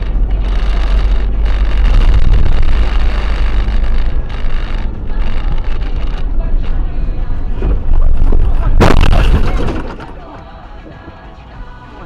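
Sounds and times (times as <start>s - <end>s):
car engine road and wind noise: 0.0s - 12.0s.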